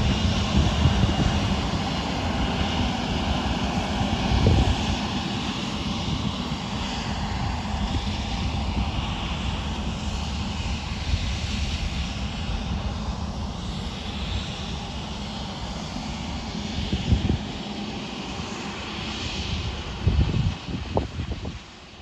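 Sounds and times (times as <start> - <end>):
jet engine whine: 0.0 - 22.0.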